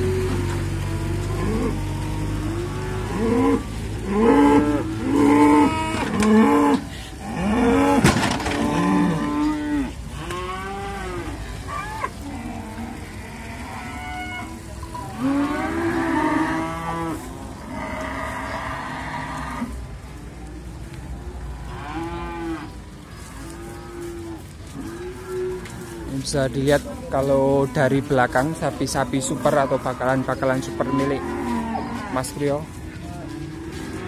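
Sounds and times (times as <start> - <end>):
cattle mooing: 0.0 - 19.8, 20.4 - 34.0.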